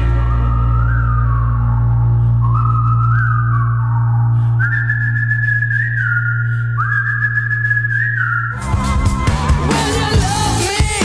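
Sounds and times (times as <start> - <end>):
whistled melody: 0.0 - 10.2
sustained bass: 0.0 - 11.0.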